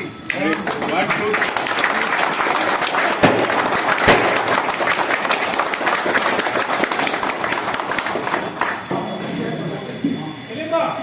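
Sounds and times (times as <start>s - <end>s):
crowd applauding: 0.2s - 9.4s.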